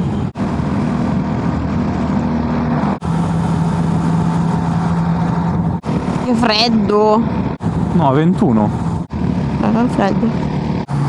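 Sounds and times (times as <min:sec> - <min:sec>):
motorcycle engine running: 0:00.0 - 0:11.0
riding wind rush: 0:00.0 - 0:11.0.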